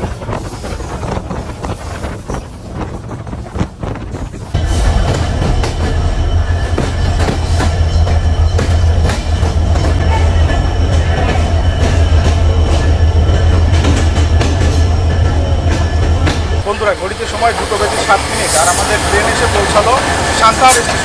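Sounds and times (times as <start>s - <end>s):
track knocks and clatter: 0.0s - 21.0s
train rumbling: 0.0s - 21.0s.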